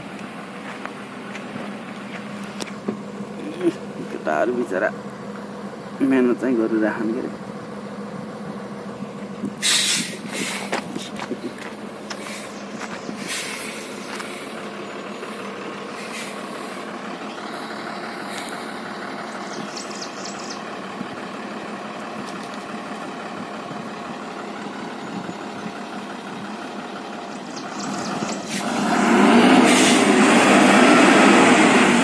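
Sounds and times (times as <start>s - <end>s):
truck diesel engine under load: 0.0s - 32.0s.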